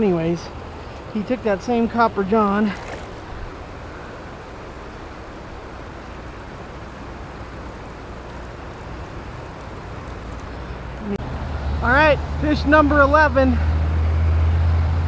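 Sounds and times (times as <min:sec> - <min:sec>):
river flowing over cobbles: 0:00.0 - 0:13.4.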